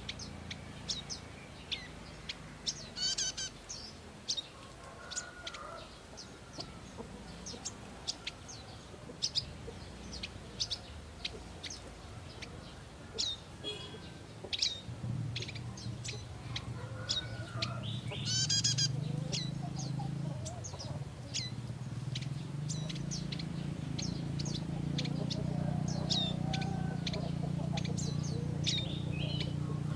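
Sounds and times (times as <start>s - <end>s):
bird chirping and trilling: 0.0s - 4.5s, 6.2s - 29.9s.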